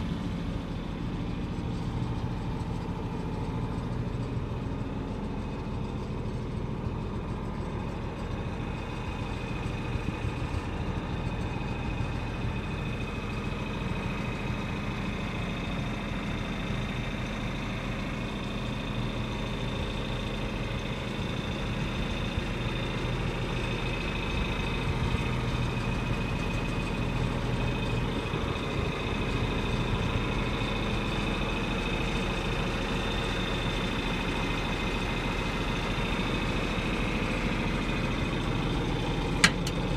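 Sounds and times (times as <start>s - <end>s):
tractor engine drone: 0.0s - 39.9s.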